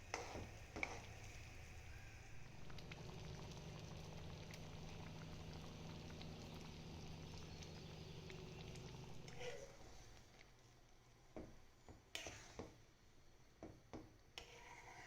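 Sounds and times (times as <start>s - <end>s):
thick stew simmering and bubbling: 0.0s - 13.0s, 13.6s - 15.0s.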